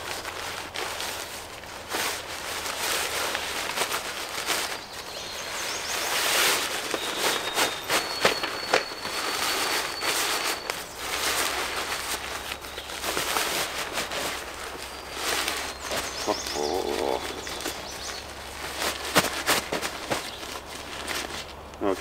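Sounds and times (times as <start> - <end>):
nylon fabric rustling: 0.0 - 22.0.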